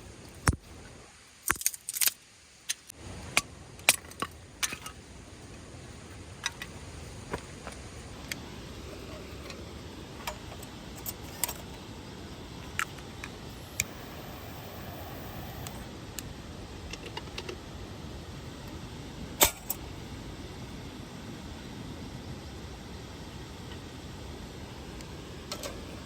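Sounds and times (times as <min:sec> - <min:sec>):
steady low background noise: 0:00.0 - 0:26.0.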